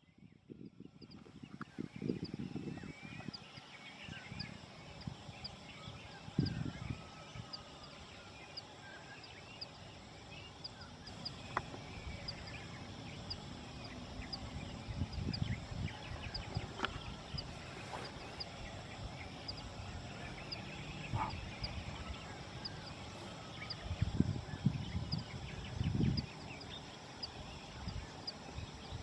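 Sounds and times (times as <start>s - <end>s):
wind buffeting microphone: 0.0s - 8.2s, 10.7s - 29.0s
small birds chirping: 0.0s - 29.0s.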